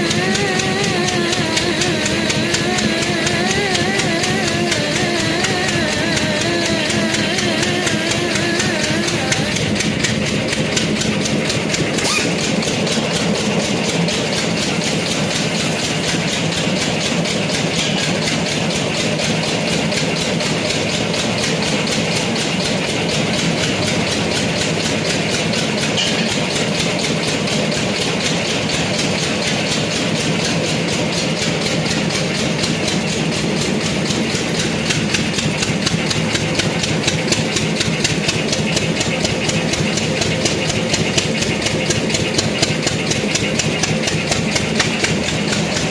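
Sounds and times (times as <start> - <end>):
machine running with fast pulse: 0.0 - 45.9.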